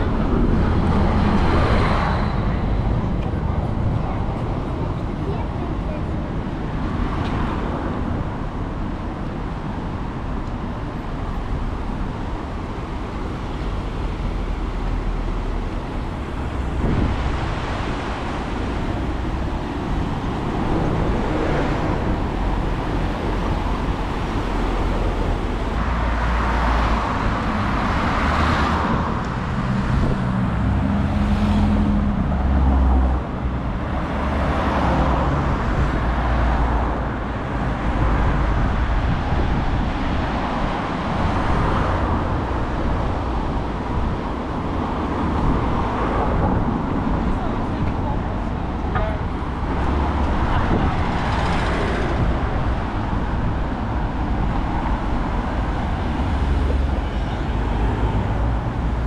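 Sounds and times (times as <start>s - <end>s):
background traffic rush: 0.0s - 59.0s
cars passing: 0.0s - 59.0s
heavy vehicle engine hum: 0.0s - 59.0s.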